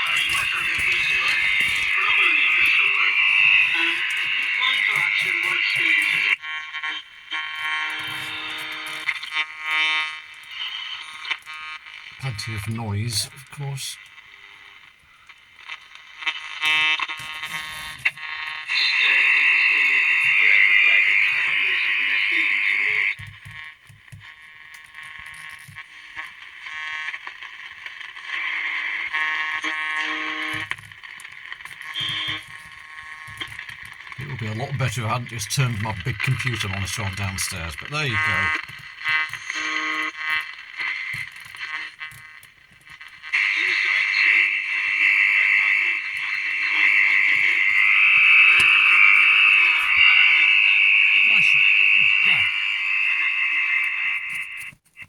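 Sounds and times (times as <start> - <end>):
buzzing interference hum: 0.0 - 54.8
radio static: 0.0 - 55.0.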